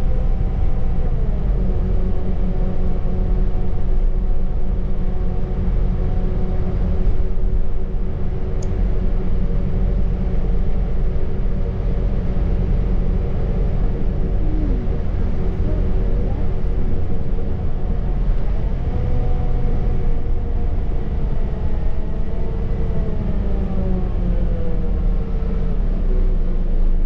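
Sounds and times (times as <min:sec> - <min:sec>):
bus diesel engine rumbling: 0:00.0 - 0:27.0.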